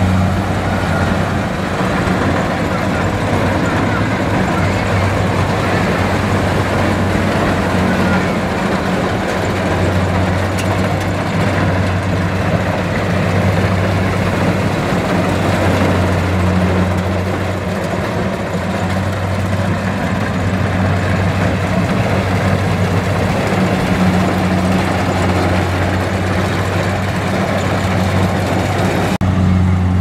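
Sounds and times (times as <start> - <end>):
rushing noise of threshing gear: 0.0 - 29.4
diesel engine drone: 0.0 - 30.0.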